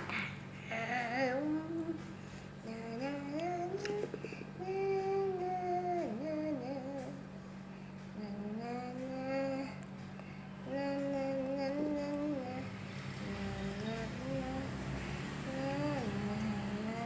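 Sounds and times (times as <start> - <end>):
girl singing softly: 0.0 - 17.0
steady low hum: 0.0 - 17.0.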